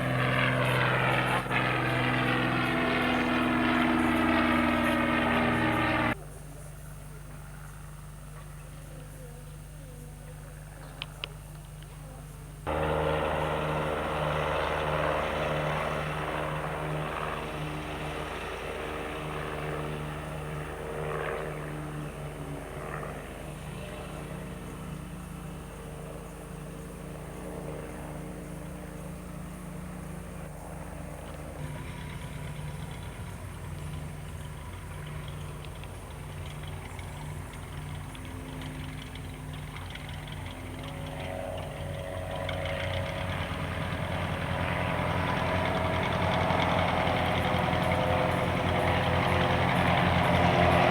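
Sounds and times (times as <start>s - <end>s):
propeller plane engine droning: 0.0s - 50.9s.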